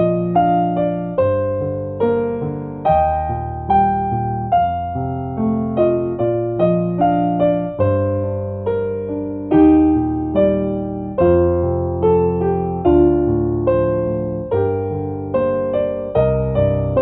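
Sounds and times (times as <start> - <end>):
soft keyboard chords: 0.0 - 17.0.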